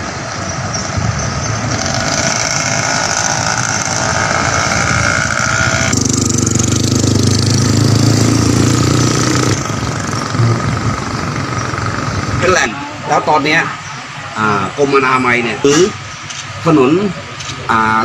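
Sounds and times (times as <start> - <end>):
car and motorcycle engines passing: 0.0 - 18.0.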